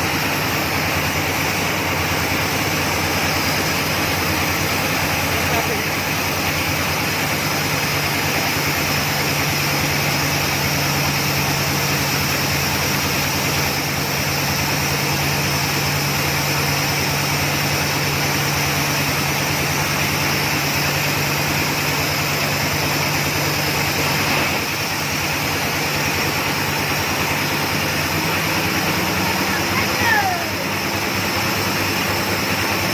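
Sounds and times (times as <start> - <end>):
drilling rig engine running: 0.0 - 32.9.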